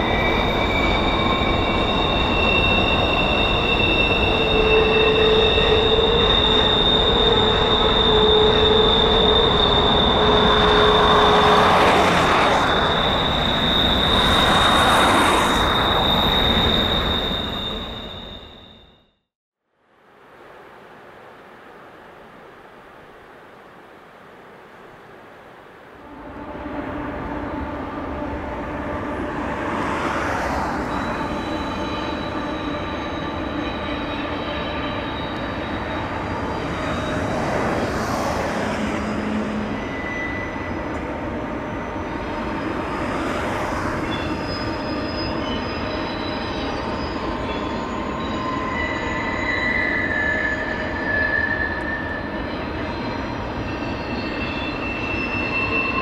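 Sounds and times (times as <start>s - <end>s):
freight train rolling: 0.0s - 19.0s, 26.0s - 56.0s
train wheels squealing: 0.0s - 19.3s, 26.2s - 56.0s.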